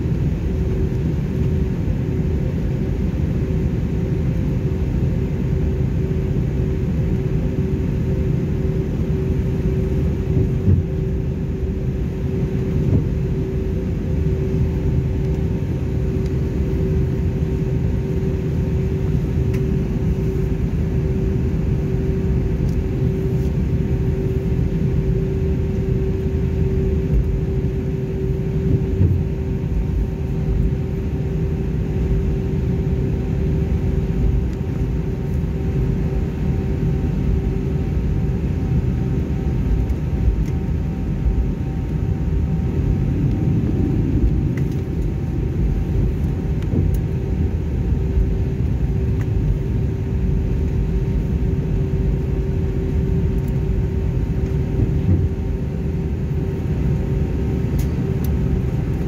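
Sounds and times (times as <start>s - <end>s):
aircraft engines rumbling: 0.0s - 59.0s
constant hum: 0.0s - 59.0s.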